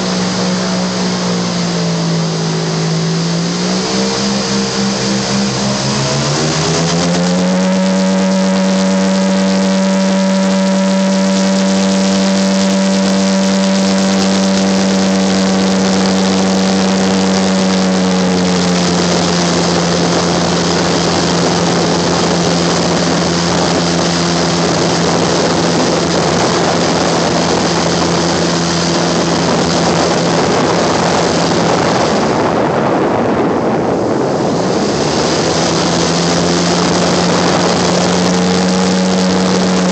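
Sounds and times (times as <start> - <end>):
boat engine: 0.0 - 39.9
wind and water rush: 0.0 - 39.9.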